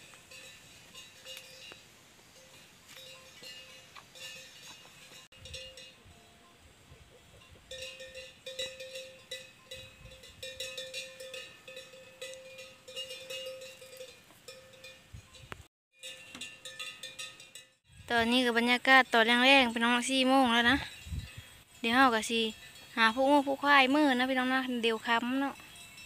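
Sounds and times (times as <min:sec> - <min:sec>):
cow bell clanking: 0:00.0 - 0:26.0.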